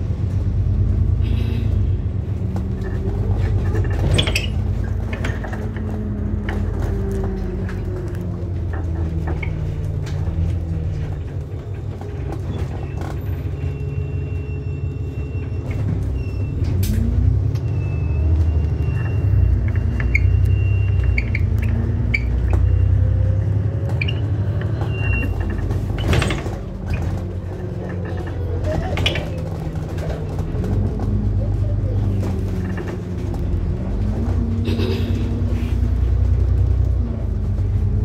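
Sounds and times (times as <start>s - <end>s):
bus engine rumble: 0.0s - 38.0s.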